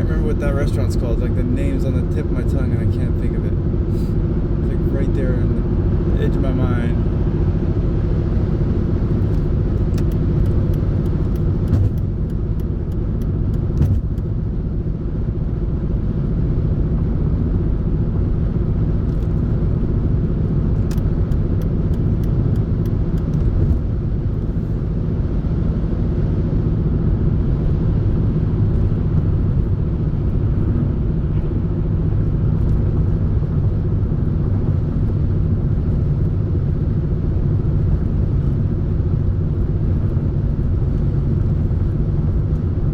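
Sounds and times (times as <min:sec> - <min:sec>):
car engine and road noise drone: 0:00.0 - 0:42.9.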